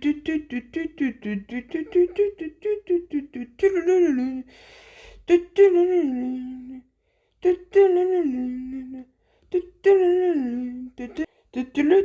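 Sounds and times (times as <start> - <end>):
person humming: 0.0 - 4.5, 5.2 - 12.0.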